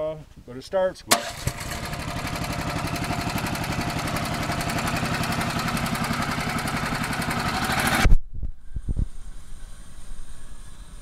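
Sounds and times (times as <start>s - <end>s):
gasoline engine running: 1.1s - 11.0s.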